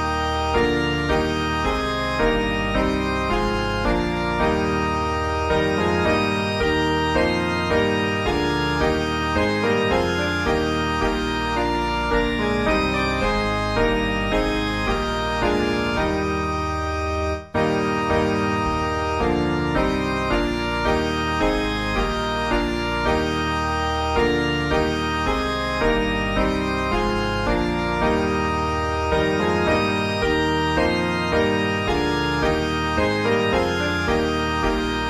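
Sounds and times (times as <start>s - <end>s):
organ playing hymn chords: 0.0s - 35.0s.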